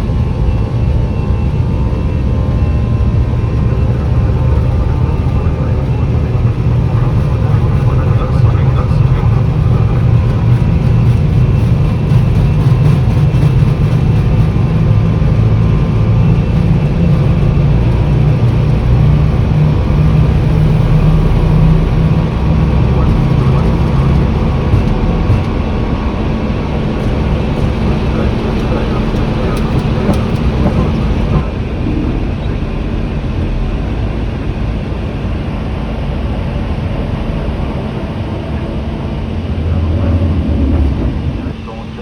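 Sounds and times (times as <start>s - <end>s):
jet engines rumbling: 0.0s - 42.0s
wheels rumbling on runway: 0.0s - 42.0s.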